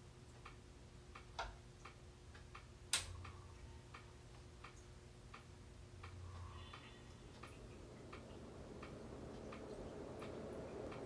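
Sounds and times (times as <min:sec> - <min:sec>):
ceiling fan ticking: 0:00.0 - 0:11.0
faint hum: 0:00.0 - 0:11.0.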